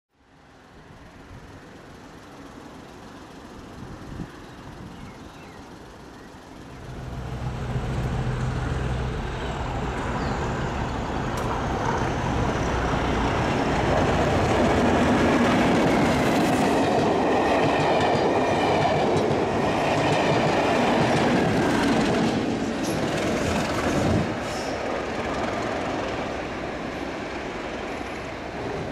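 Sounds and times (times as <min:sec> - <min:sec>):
diesel locomotive engines: 0:00.2 - 0:28.9
wheel-on-rail noise: 0:00.7 - 0:28.9.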